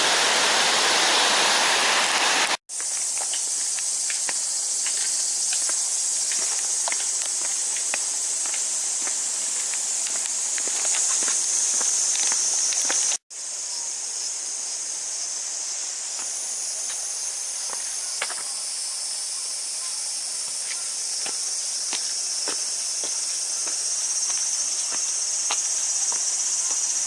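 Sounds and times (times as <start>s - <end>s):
cicadas chorus: 0.0s - 27.0s.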